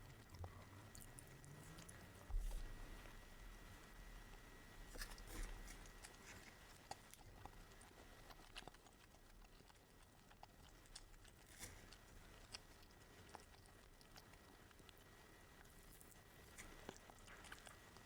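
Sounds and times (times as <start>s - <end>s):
mouth sounds of eating: 0.0s - 18.0s.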